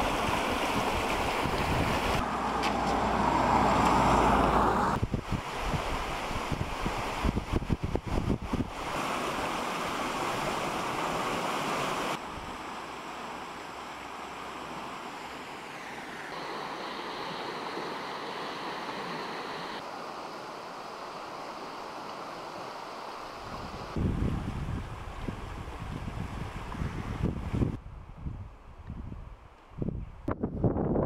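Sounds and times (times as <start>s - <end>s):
roar of rushing floodwater: 0.0s - 27.8s.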